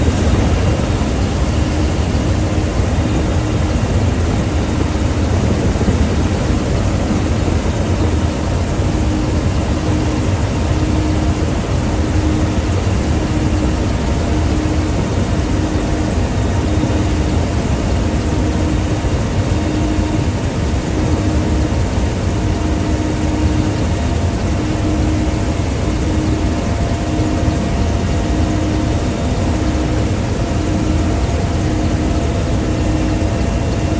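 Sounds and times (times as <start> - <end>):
faint steady hum: 0.0 - 33.9
helicopter engine and rotor noise: 0.0 - 33.9.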